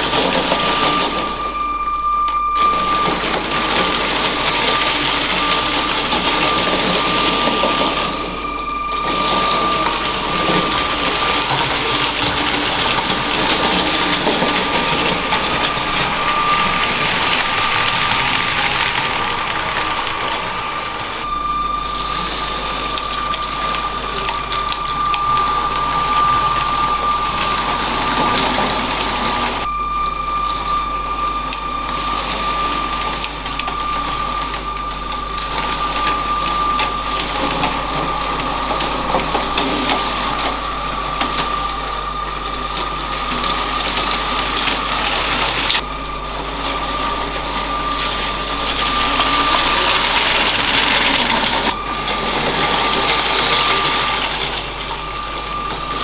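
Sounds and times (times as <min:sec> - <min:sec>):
wheels rattling on plastic track: 0:00.0 - 0:29.7, 0:30.4 - 0:56.0
toy train motor whining: 0:00.0 - 0:56.0.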